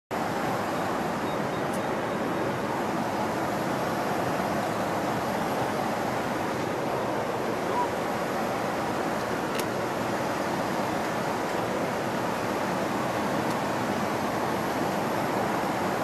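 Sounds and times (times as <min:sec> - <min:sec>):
airliner cabin engine rush: 0:00.1 - 0:16.0.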